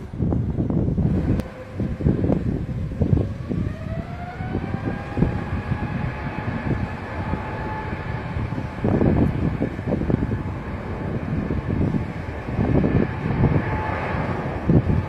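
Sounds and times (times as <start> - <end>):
jet engine whine: 0.0 - 15.0
wind buffeting microphone: 0.0 - 15.0.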